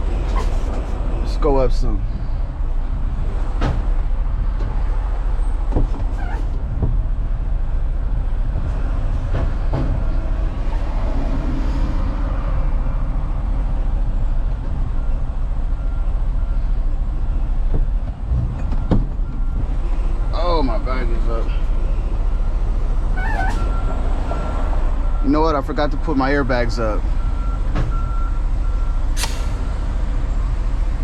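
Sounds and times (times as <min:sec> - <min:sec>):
diesel truck engine rumbling: 0:00.0 - 0:31.0.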